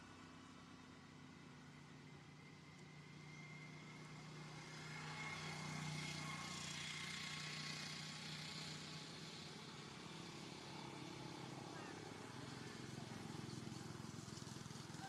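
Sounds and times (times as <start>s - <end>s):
distant engine hum: 0.0s - 15.0s.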